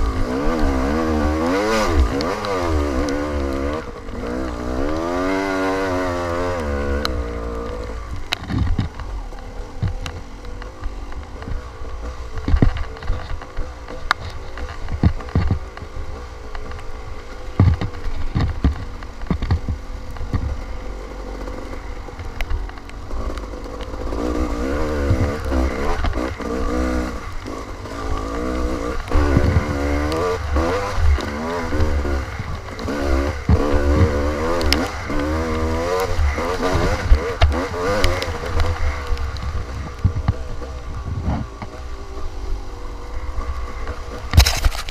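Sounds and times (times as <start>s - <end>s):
bike knocking and clattering: 0.0s - 44.9s
dirt bike engine revving: 0.0s - 44.9s.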